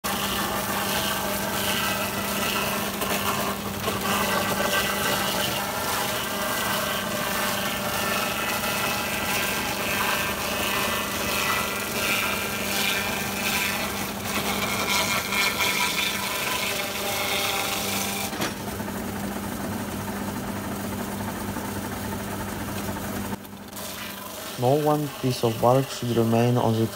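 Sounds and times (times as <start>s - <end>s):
cutter scraping and shaving bark: 0.0s - 18.4s, 23.3s - 26.9s
motor hum: 0.0s - 26.9s.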